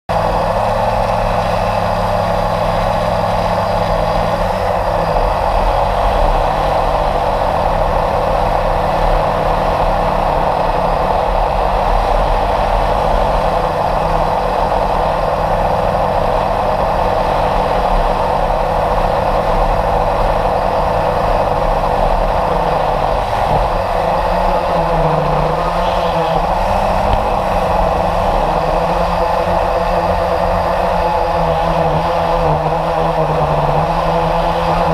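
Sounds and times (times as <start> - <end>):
low hum: 0.1 - 34.9
model jet motor noise: 0.1 - 34.9
rushing air: 0.1 - 34.9.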